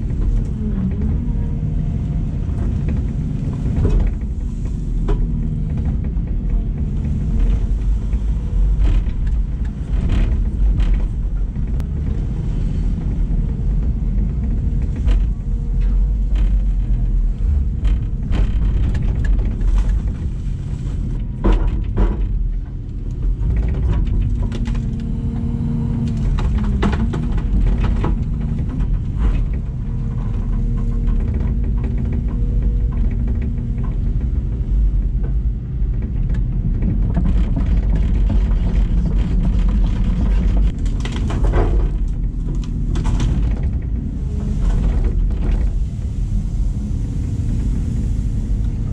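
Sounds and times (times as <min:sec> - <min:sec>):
machine clanks and knocks: 0:00.0 - 0:46.2
excavator diesel engine running: 0:00.0 - 0:48.9.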